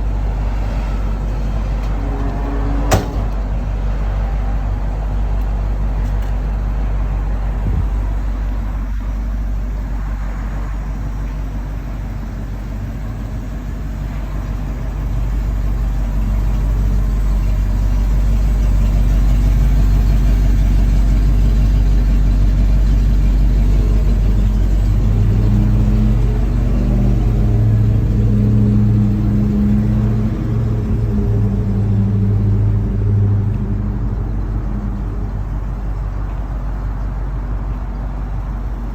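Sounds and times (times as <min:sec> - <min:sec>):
deep steady tone: 0:00.0 - 0:38.9
truck engine running: 0:00.0 - 0:38.9.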